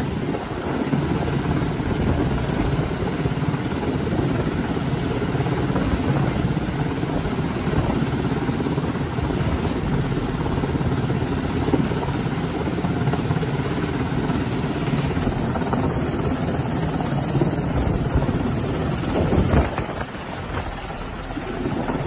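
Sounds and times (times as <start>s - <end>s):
helicopter rotor and turbine drone: 0.0s - 22.0s.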